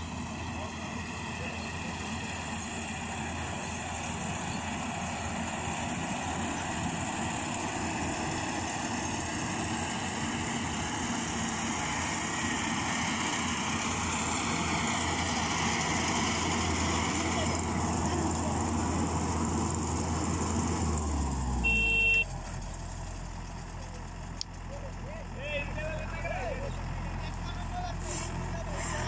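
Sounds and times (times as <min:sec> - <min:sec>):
combine harvester engine hum: 0:00.0 - 0:29.0.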